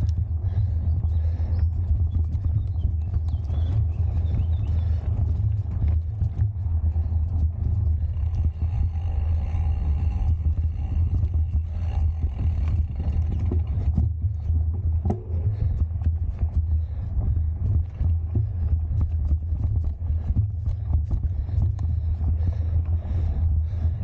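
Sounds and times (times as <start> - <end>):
bike clicks and rattles: 0.0 - 24.0
low rumble of tyres: 0.0 - 24.0.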